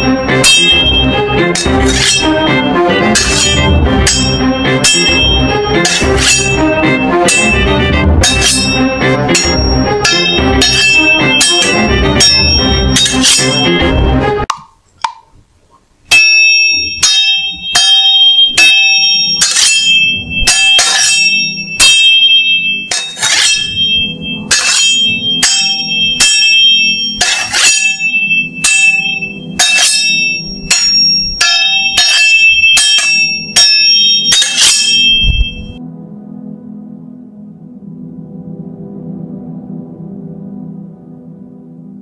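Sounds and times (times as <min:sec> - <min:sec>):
steel swords clashing: 0:00.0 - 0:14.1, 0:16.1 - 0:35.8
low steady hum: 0:00.0 - 0:42.0.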